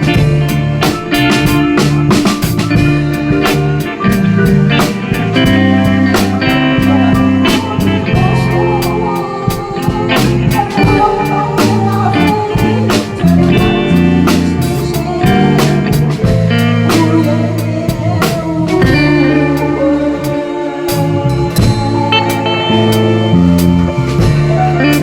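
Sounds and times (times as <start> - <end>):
bass: 0.0 - 25.0
drum kit beating: 0.0 - 25.0
guitar melody: 0.0 - 25.0
keyboard: 0.0 - 25.0.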